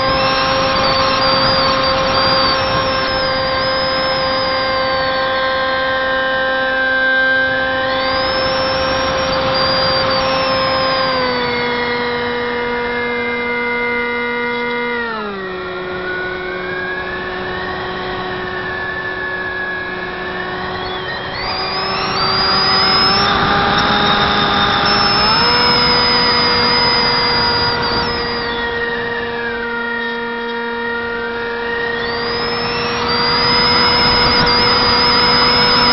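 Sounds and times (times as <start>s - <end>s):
electric motor whine: 0.0s - 35.9s.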